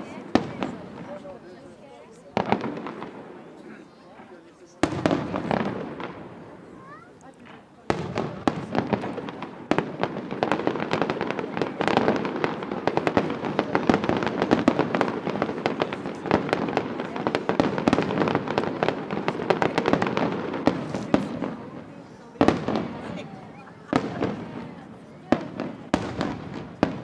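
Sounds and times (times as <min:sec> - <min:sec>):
fireworks bangs and crackling: 0:00.0 - 0:27.0.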